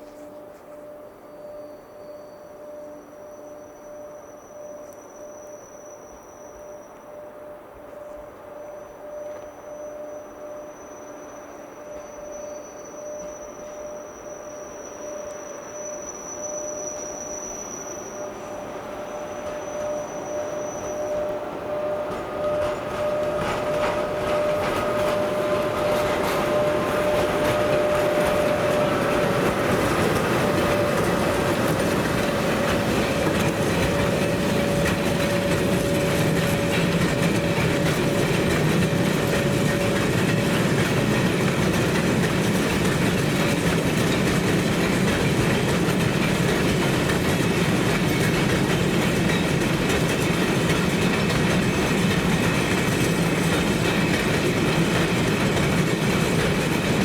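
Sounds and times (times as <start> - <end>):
train wheels clattering on rails: 11.2 - 57.0.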